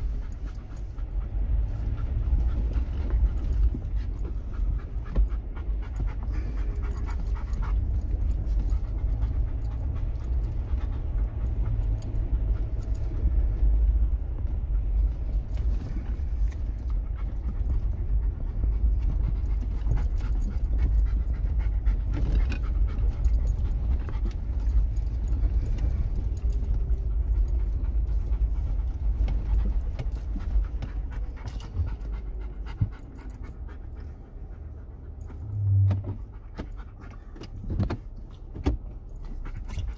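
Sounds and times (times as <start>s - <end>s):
dog panting: 0.0s - 37.9s, 39.0s - 39.9s
low engine rumble: 0.0s - 39.9s.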